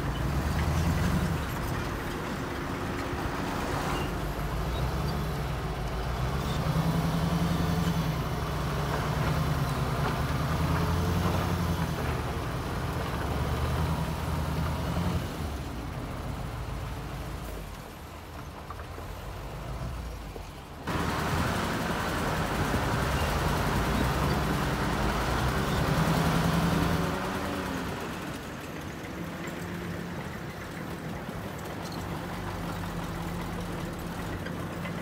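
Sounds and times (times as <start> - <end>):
heavy diesel engine under load: 0.0 - 35.0.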